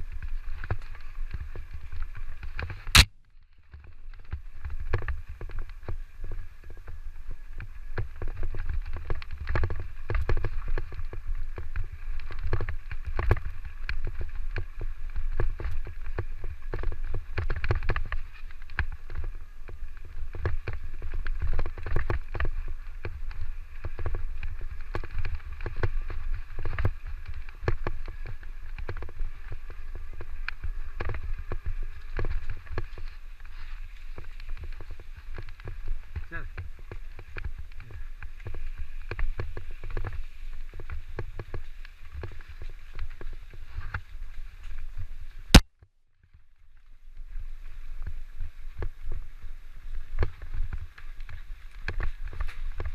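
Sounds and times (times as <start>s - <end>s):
bike rattling over rough ground: 0.0s - 45.6s, 46.2s - 52.9s
wind rumble on microphone: 0.0s - 45.6s, 46.2s - 52.9s.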